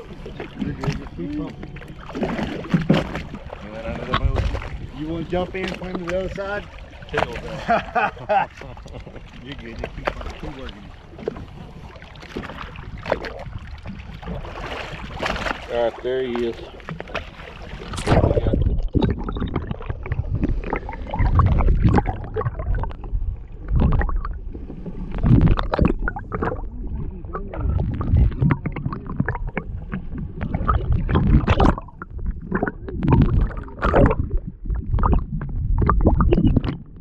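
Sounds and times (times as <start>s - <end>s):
muffled underwater rumbling: 0.0s - 37.0s
water sloshing and gurgling: 0.0s - 37.0s.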